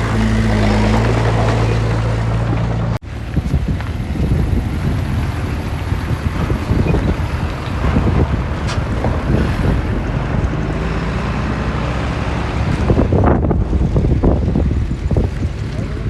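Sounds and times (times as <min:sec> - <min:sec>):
diesel engine running: 0:00.0 - 0:16.0
wind buffeting microphone: 0:00.0 - 0:16.0.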